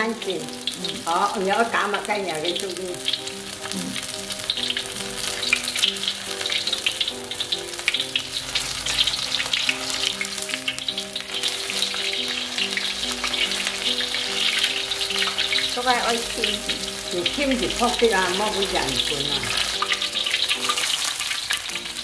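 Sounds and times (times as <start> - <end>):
batter frying in sizzling oil: 0.0 - 22.0
soft background melody: 0.0 - 22.0.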